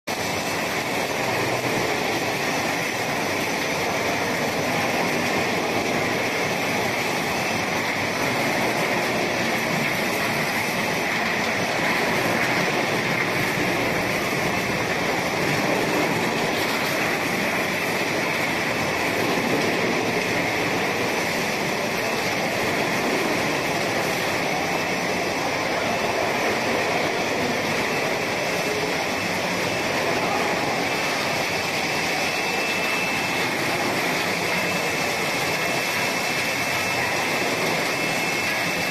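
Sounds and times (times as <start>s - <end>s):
production line machinery running: 0.1s - 38.9s.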